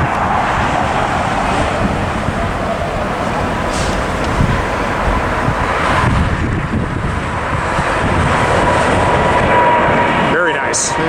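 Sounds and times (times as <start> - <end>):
jet engines at takeoff thrust: 0.0 - 11.0
wind buffeting microphone: 0.0 - 11.0.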